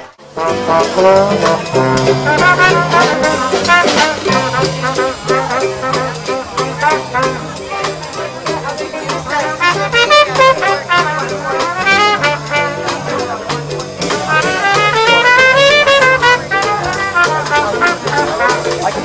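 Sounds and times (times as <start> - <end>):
trumpet melody: 0.0 - 13.5, 14.2 - 19.0
drum kit beat: 0.0 - 19.0
trombone: 0.0 - 19.0.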